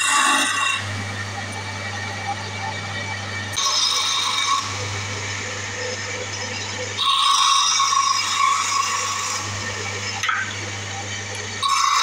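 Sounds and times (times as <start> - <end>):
wood lathe motor humming: 0.0 - 12.0.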